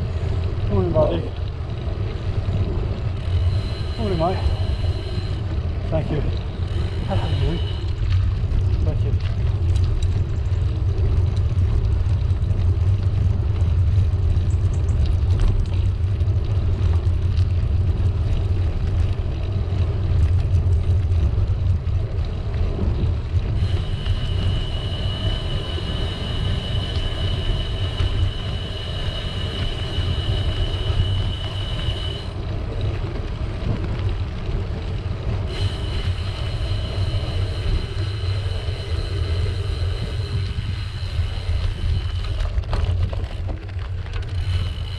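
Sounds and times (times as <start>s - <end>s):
steady high whine: 0.0s - 44.9s
tyre noise on tarmac: 0.0s - 44.9s
wind buffeting microphone: 0.0s - 44.9s.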